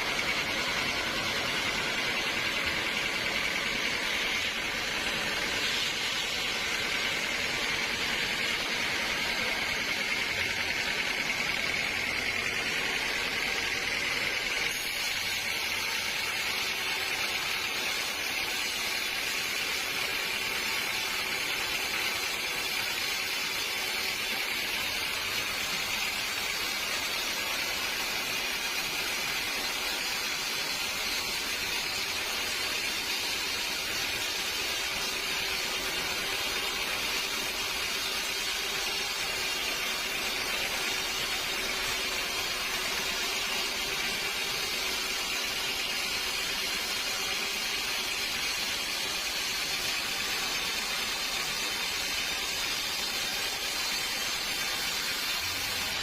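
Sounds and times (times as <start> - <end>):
sawmill saw whining: 0.0 - 56.0.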